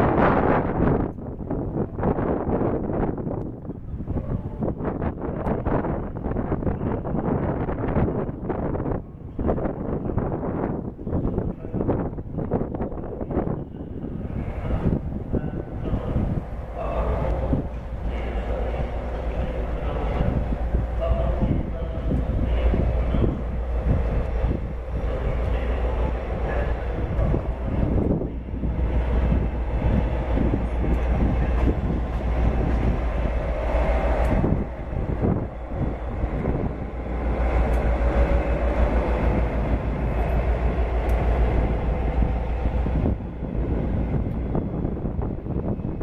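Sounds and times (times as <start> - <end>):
diesel locomotive engine running: 0.0 - 46.0.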